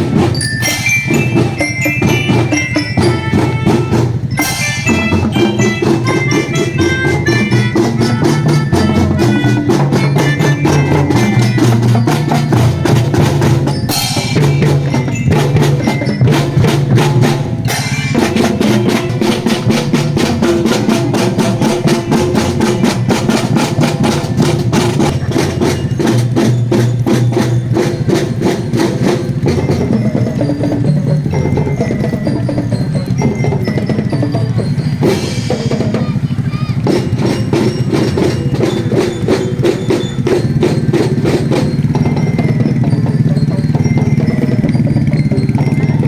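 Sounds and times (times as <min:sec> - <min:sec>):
bell lyra melody: 0:00.0 - 0:46.0
snare and bass drums: 0:00.0 - 0:46.0.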